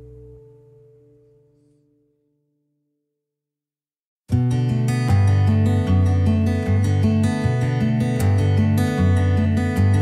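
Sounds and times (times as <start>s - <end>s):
acoustic guitar music: 0.0s - 2.4s, 4.3s - 10.0s.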